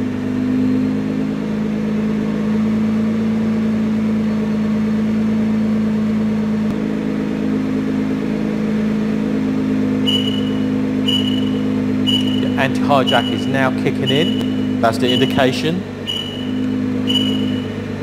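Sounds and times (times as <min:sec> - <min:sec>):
car engine idling: 0:01.0 - 0:18.0.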